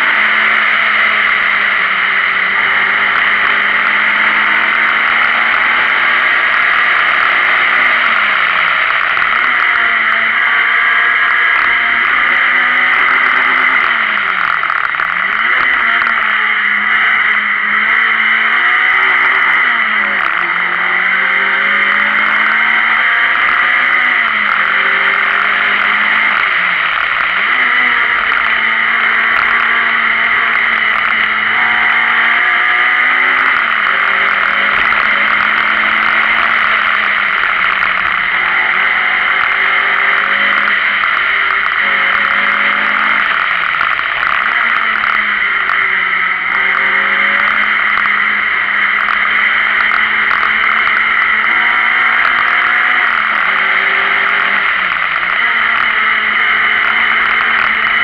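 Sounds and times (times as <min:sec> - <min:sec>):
car engine revving through gears: 0:00.0 - 0:58.0
road and wind noise: 0:00.0 - 0:58.0.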